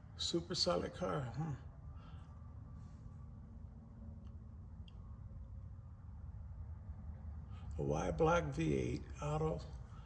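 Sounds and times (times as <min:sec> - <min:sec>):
low room rumble: 0:00.0 - 0:10.0.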